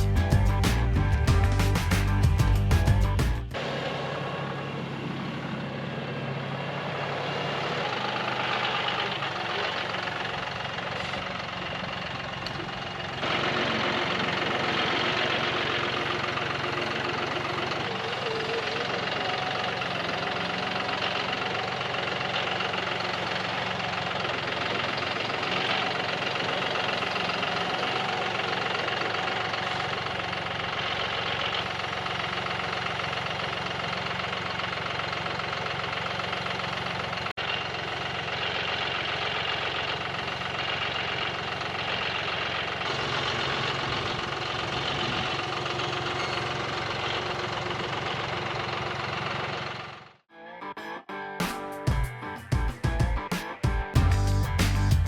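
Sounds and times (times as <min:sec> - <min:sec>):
tractor diesel engine running: 0:00.0 - 0:50.2, 0:53.9 - 0:55.0.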